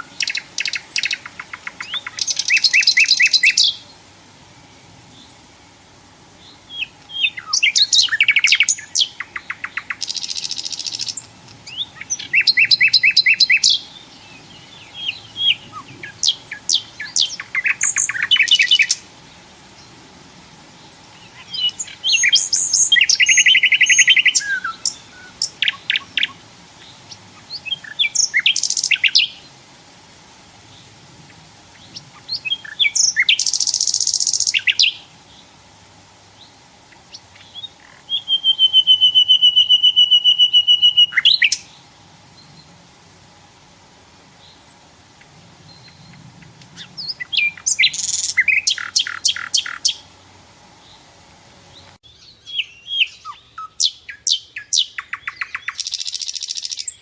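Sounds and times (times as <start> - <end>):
nightingale singing: 0.0 - 5.4, 6.3 - 29.6, 30.6 - 35.6, 36.3 - 42.8, 44.4 - 50.2, 51.7 - 57.0.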